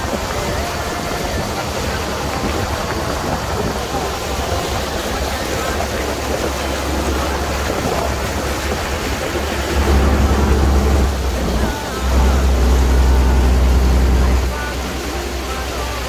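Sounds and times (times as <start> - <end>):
boat engine low rumble: 0.0 - 16.0
water and wind rushing: 0.0 - 16.0.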